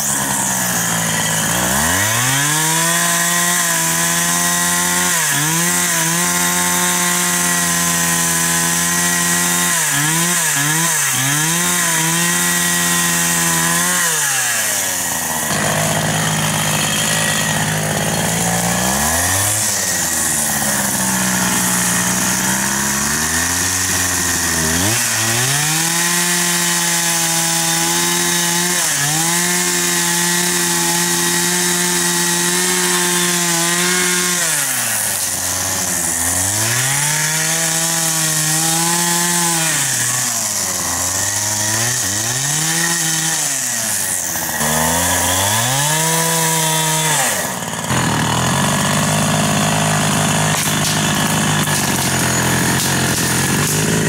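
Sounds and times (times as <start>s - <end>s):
chainsaw cutting a log: 0.0s - 54.0s.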